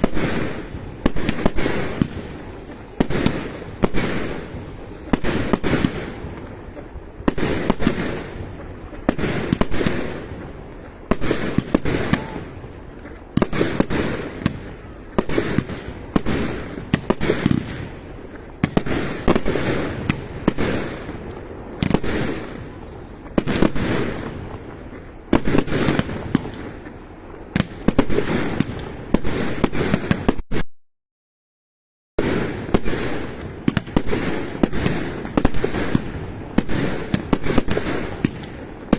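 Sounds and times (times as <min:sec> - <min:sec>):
fireworks bangs with rumbling echo: 0:00.0 - 0:30.6, 0:32.2 - 0:38.9.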